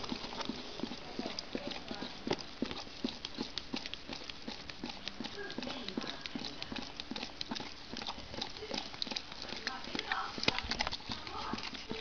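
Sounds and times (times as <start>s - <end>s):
dogs licking a pot: 0.0s - 12.0s.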